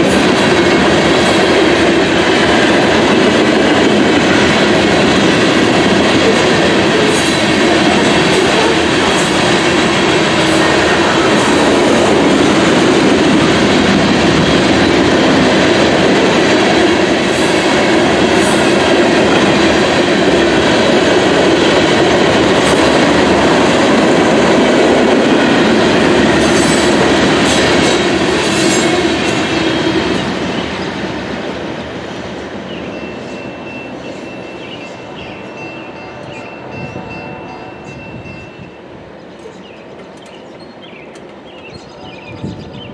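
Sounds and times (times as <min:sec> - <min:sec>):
steel wheels rumbling on rail: 0:00.0 - 0:42.9.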